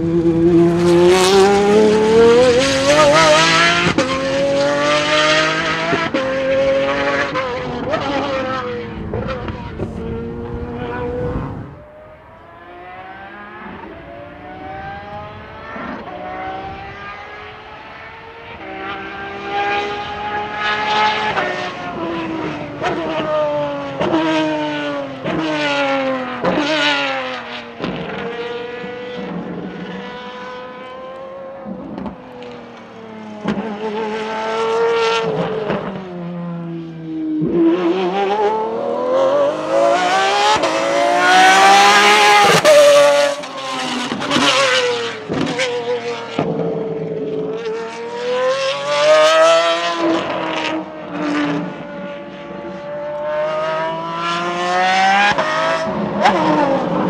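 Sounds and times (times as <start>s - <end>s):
racing engine revving and shifting: 0.0s - 57.0s.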